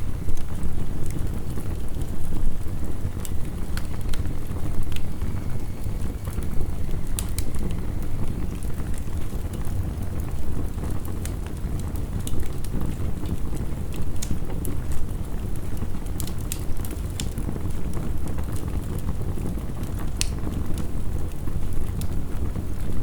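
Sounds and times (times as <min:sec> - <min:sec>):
heavy rain rumble: 0:00.0 - 0:23.0
wood fire crackling: 0:00.0 - 0:23.0.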